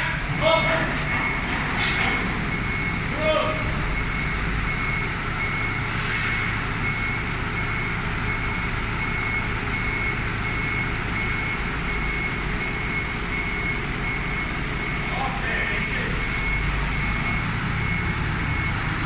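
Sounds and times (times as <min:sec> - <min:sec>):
reversing alarm beeping: 0:00.0 - 0:19.0.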